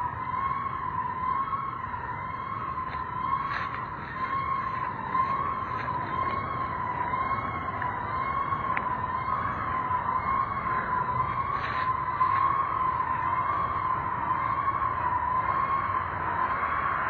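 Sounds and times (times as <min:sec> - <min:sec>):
low rumble of train cars: 0:00.0 - 0:17.0.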